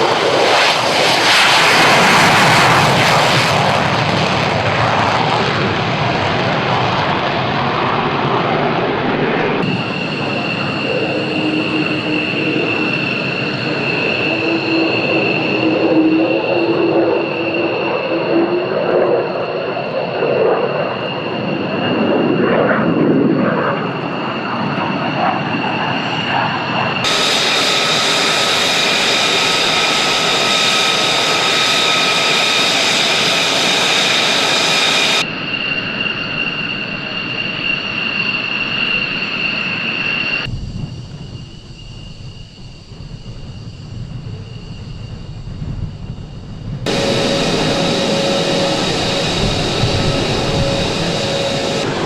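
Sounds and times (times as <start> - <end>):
deep jet rumble: 0.0 - 36.2, 40.3 - 52.0
jet engine whine and roar: 0.0 - 52.0.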